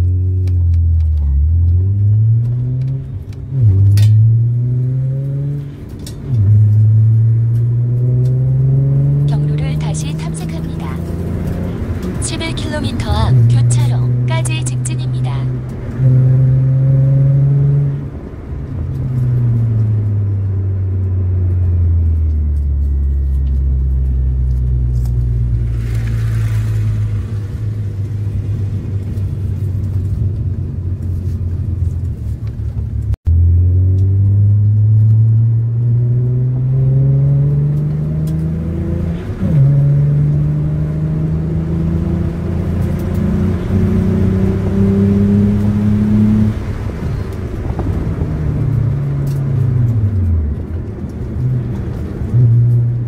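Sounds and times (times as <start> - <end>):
car engine revving and shifting: 0.0 - 32.0, 33.3 - 53.0.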